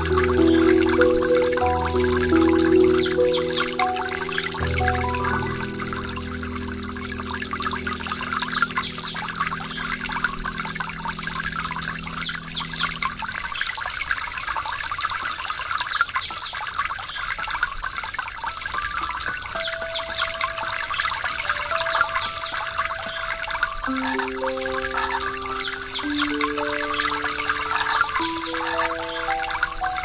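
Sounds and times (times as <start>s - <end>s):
soft background music: 0.0s - 13.8s, 18.9s - 30.0s.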